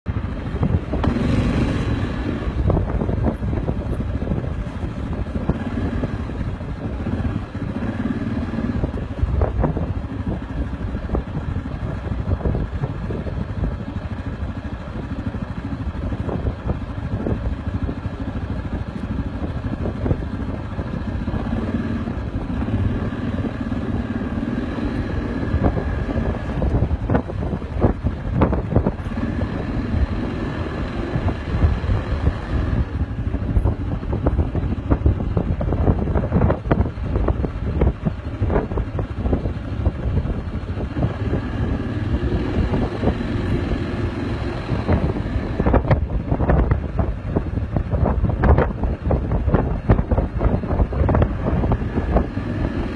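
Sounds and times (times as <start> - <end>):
wind buffeting microphone: 0.1 - 52.9.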